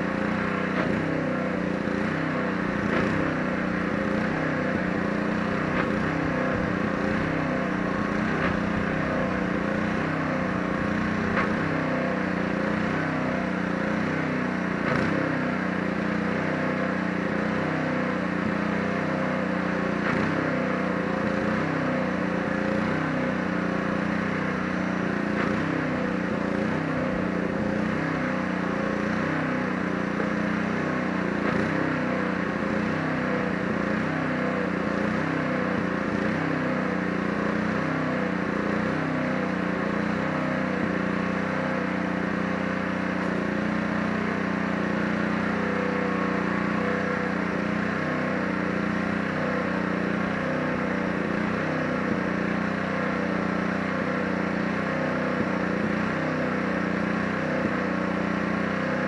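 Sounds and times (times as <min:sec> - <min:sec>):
pressure washer engine running: 0:00.0 - 0:59.0.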